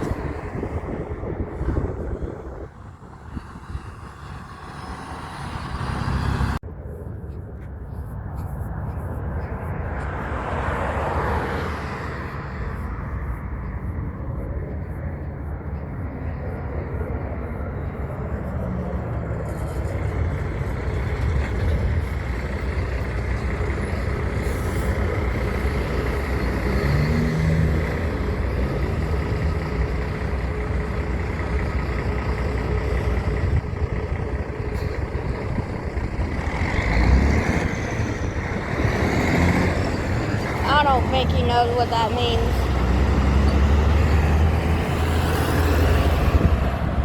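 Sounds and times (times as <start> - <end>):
diesel truck engines running: 0.0 - 47.0.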